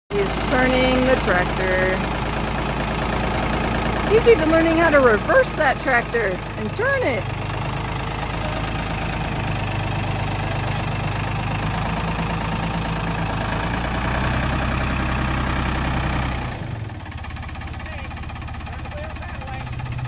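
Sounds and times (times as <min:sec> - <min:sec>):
tractor engine running: 0:00.1 - 0:20.0.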